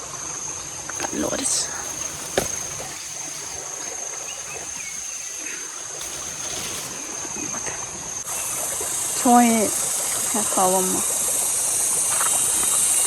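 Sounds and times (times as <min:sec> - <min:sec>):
crickets droning: 0:00.0 - 0:13.0
even hiss: 0:00.9 - 0:13.0.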